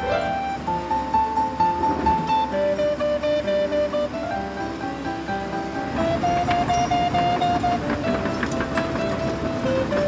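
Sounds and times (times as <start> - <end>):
light background music: 0.0 - 10.0.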